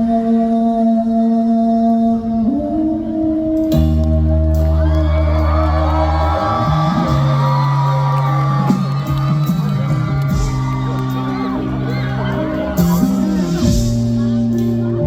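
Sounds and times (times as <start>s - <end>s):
sustained bass notes: 0.0s - 15.0s.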